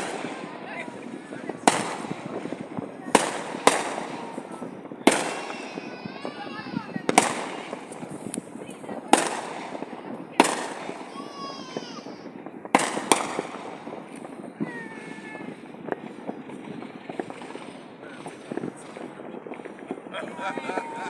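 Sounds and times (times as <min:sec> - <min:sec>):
fireworks bangs: 0:00.0 - 0:21.0
fireworks pops and crackles: 0:00.0 - 0:21.0.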